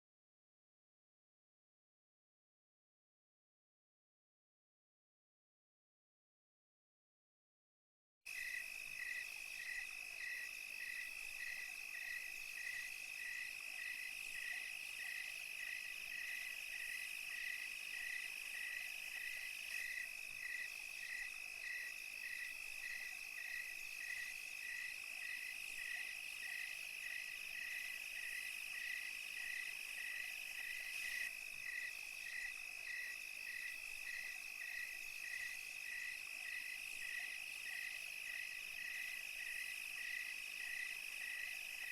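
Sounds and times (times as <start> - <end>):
cricket chirping in pulses: 8.3 - 41.9
cricket steady high trill: 8.3 - 41.9
faint insect buzzing: 8.3 - 41.9.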